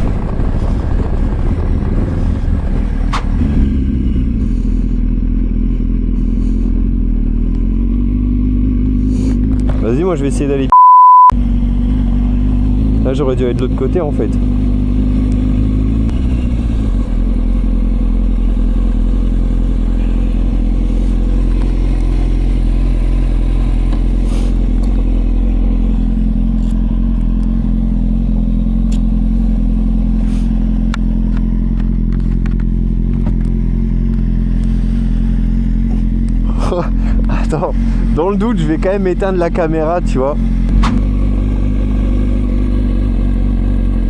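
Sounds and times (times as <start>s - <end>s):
motorcycle engine running: 0.0s - 10.7s, 11.4s - 44.0s.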